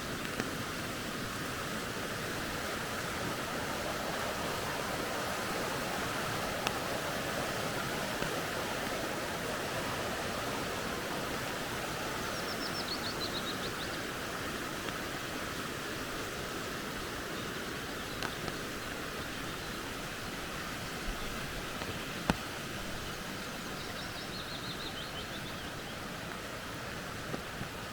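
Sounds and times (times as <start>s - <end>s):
creek flowing: 0.0s - 27.9s.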